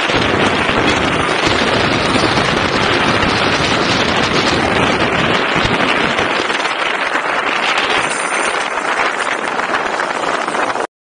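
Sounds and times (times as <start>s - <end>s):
tyre road noise: 0.0s - 10.9s
wind on microphone: 0.0s - 10.9s.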